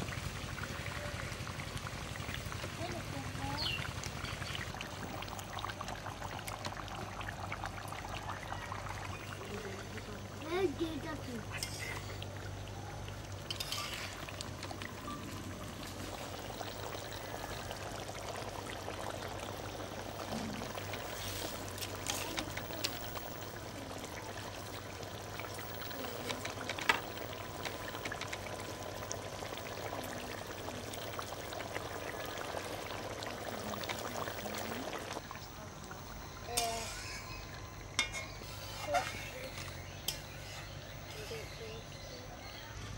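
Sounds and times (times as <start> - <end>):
curry bubbling in a wok: 0.0 - 42.9.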